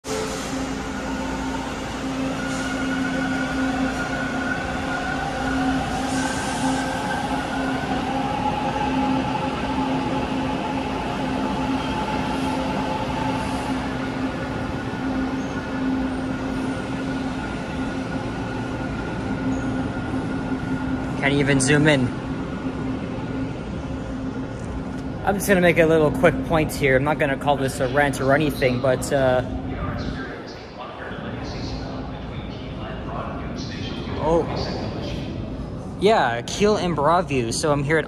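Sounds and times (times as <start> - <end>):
subway train motor whine: 0.0 - 36.0.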